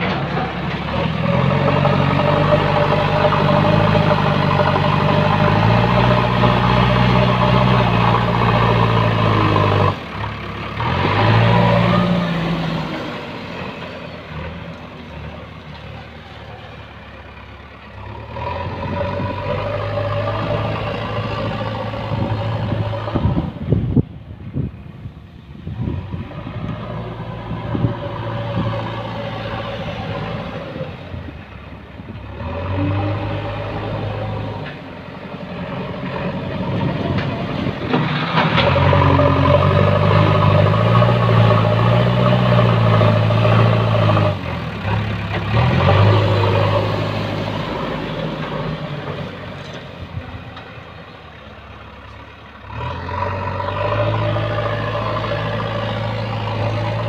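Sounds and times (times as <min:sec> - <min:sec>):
diesel engine working: 0:00.0 - 0:57.0.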